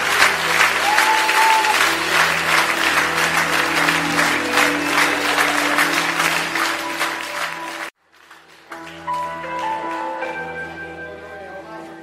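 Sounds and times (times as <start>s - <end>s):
crowd clapping and cheering: 0.0s - 10.9s.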